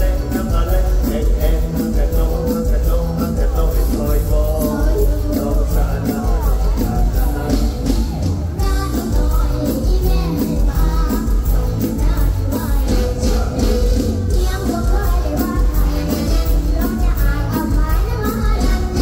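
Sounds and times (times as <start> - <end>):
live band music with heavy bass: 0.0 - 19.0
person singing: 0.0 - 19.0.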